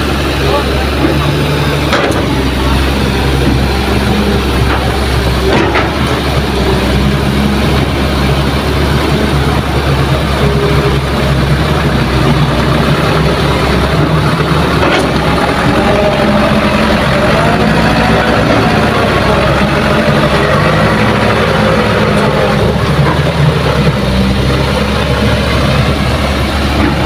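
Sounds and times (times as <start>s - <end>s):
diesel truck engine passing slowly: 0.0s - 27.0s.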